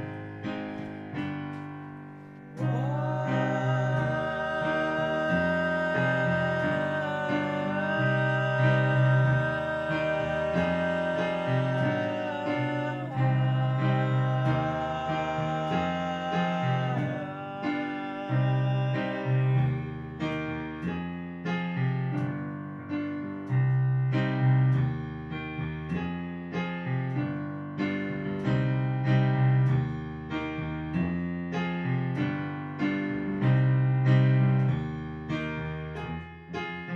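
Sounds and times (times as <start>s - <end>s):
keyboard instrumental music: 0.0s - 36.9s.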